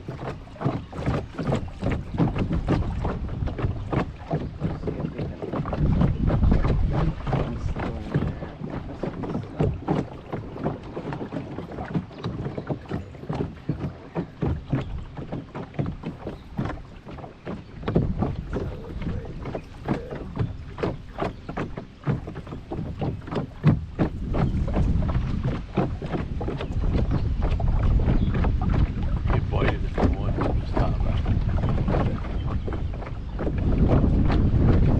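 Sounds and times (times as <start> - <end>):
waves slapping boat hull: 0.0 - 34.9
wind buffeting microphone: 0.0 - 34.9.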